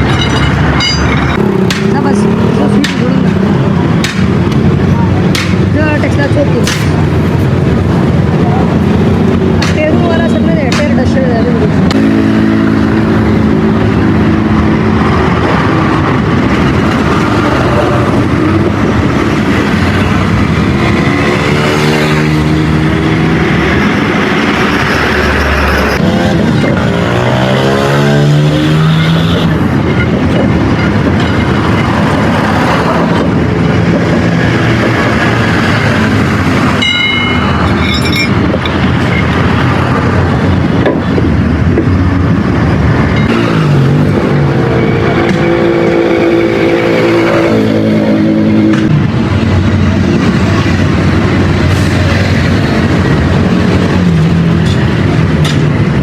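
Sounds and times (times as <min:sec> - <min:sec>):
traffic engines passing: 0:00.0 - 0:56.0.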